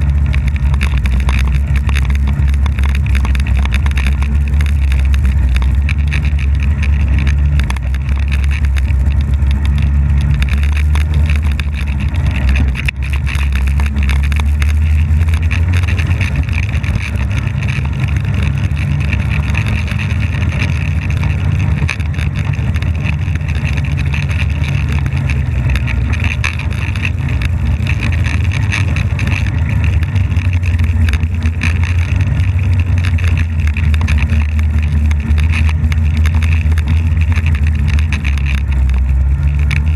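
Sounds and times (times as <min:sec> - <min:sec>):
high engine whine: 0:00.0 - 0:39.9
snowmobile engine drone: 0:00.0 - 0:39.9.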